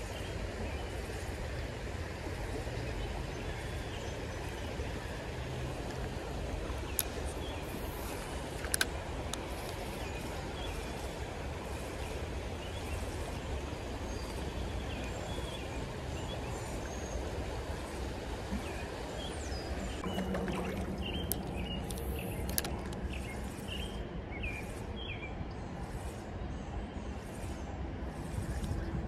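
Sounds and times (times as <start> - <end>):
creek water running over stones: 0.0 - 23.8.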